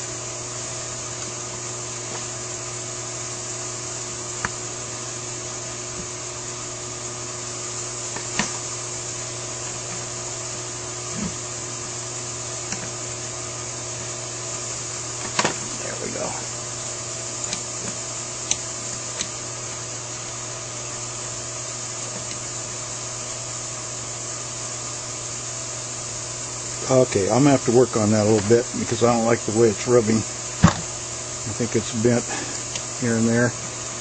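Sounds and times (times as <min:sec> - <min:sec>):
background hum and hiss: 0:00.0 - 0:34.0.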